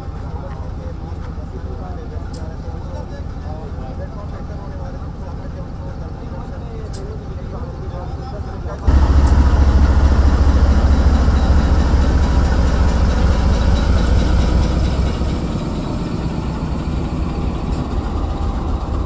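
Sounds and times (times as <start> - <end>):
locomotive engine rumble: 0.0 - 19.0
passenger coaches passing: 0.0 - 19.0.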